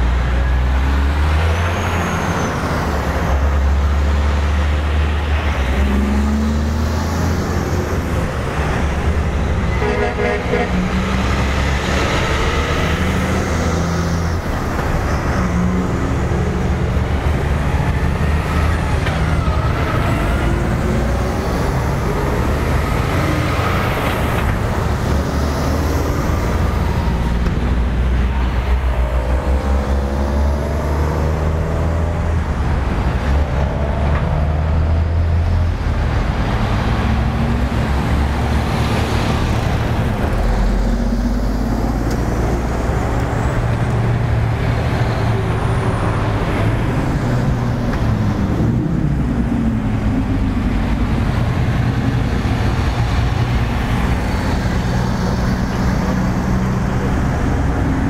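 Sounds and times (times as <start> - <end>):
diesel trucks driving past: 0.0 - 58.0.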